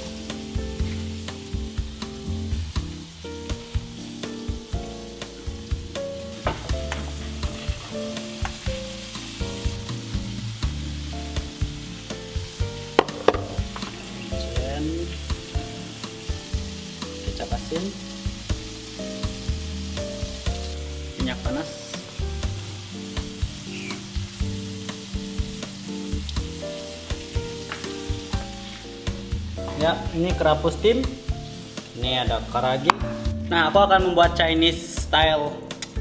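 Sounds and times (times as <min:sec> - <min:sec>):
background music with clicking beat: 0:00.0 - 0:36.0
oil sizzling in a pan: 0:00.0 - 0:36.0.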